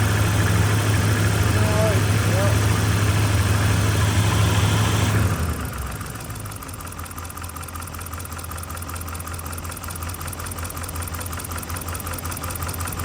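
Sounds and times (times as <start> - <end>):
misfiring truck engine idling: 0.0 - 13.0.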